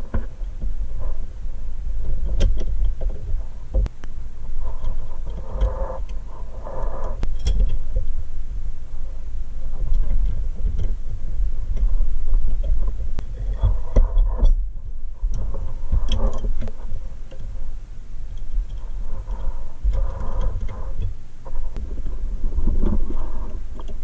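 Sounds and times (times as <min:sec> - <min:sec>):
low rumble of handling noise: 0:00.0 - 0:24.0.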